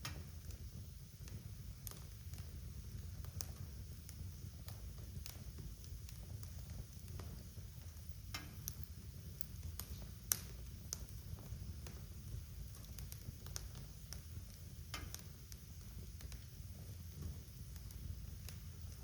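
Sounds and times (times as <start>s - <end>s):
fire crackling and popping: 0.0s - 19.0s
wood fire rumbling: 0.0s - 19.0s.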